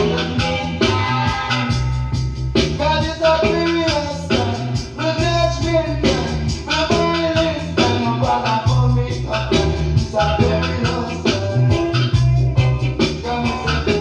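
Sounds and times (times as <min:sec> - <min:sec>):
person singing: 0:00.0 - 0:01.7, 0:02.8 - 0:14.0
deep bass line: 0:00.0 - 0:14.0.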